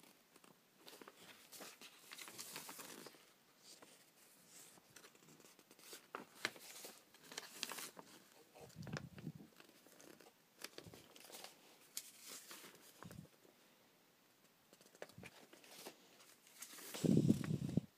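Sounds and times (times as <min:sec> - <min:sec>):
paper rustling and crinkling: 0:00.3 - 0:13.4, 0:14.7 - 0:17.9.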